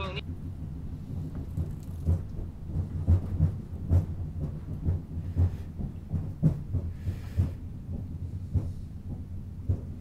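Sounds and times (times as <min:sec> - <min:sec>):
train cabin rumble: 0:00.0 - 0:10.0
wheels thumping on track: 0:00.3 - 0:10.0.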